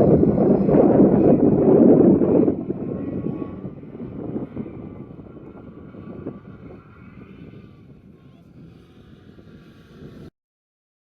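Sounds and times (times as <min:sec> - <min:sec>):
quad engine running: 0:00.0 - 0:10.3.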